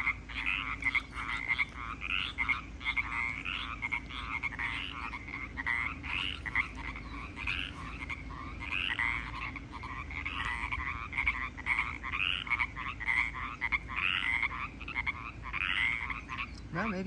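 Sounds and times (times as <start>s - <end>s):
chorus of frogs croaking: 0.0s - 17.0s.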